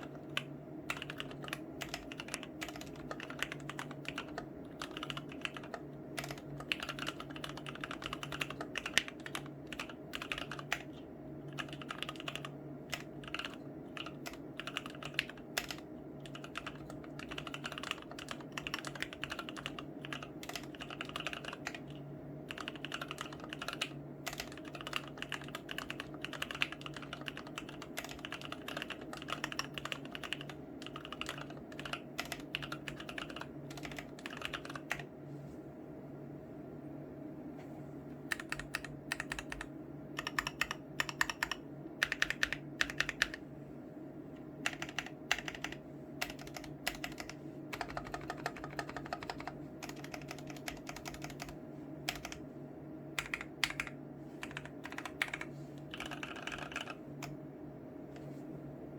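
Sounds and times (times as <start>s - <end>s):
mechanical keyboard typing: 0.0s - 35.1s, 38.3s - 43.4s, 44.6s - 52.4s, 53.2s - 57.4s
faint steady hum: 0.0s - 58.9s.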